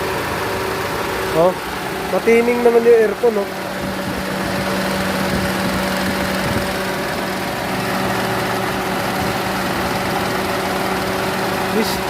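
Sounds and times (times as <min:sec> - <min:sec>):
car engine idling misfiring: 0:00.0 - 0:12.0.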